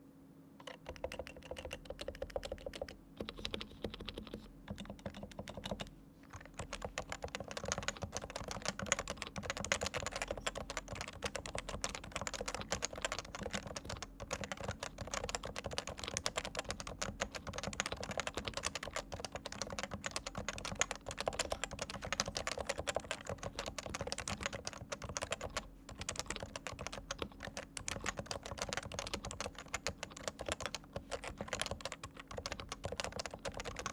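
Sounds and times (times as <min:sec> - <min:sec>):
keyboard typing: 0:00.6 - 0:33.9.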